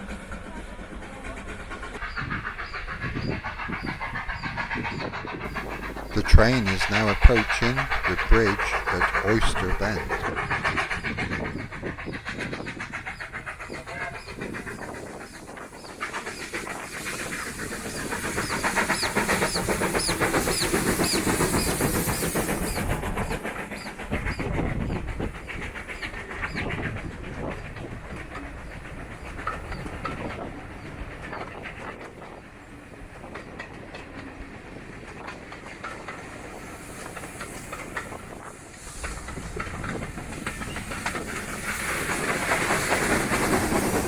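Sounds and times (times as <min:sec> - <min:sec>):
steam locomotive exhaust chuffs: 0:00.0 - 0:44.0
train wheels clattering on rail joints: 0:00.0 - 0:44.0.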